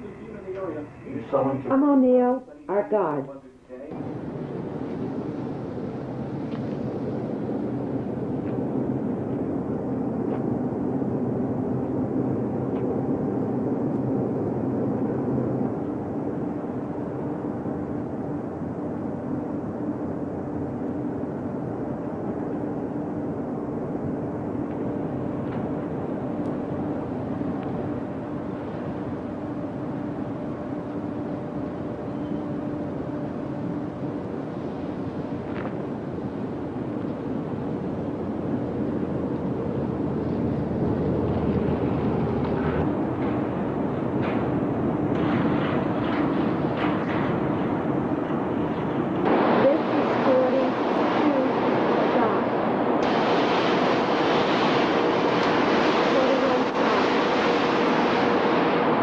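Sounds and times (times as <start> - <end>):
low hum: 0.0 - 59.0.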